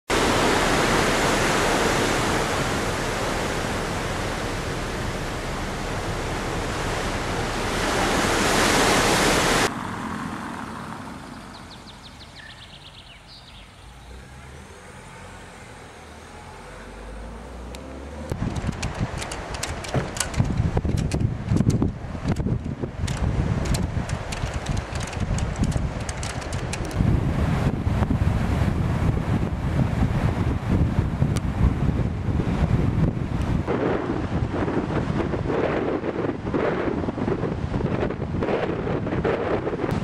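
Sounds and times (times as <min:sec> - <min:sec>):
wind and sea rushing: 0:00.1 - 0:40.0.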